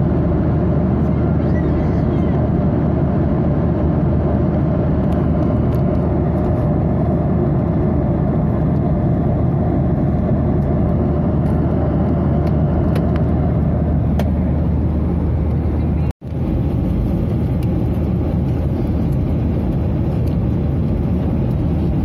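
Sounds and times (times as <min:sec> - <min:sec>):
jet engine hum: 0:00.0 - 0:22.0.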